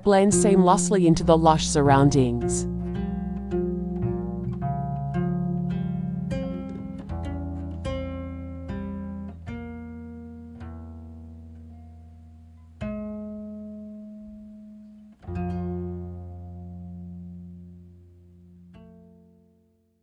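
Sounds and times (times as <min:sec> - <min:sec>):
plucked string instrument music: 0:00.0 - 0:19.9.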